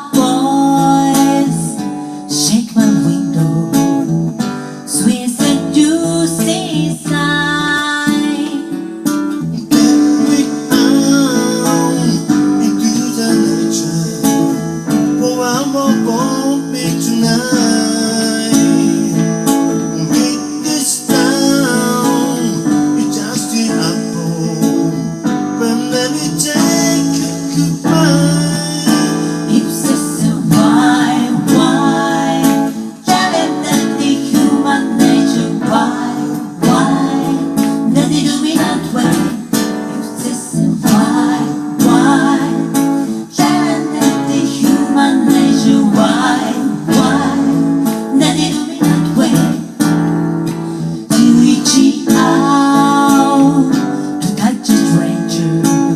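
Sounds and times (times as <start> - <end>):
person singing: 0.0 - 55.9
strummed acoustic guitar: 0.0 - 55.9.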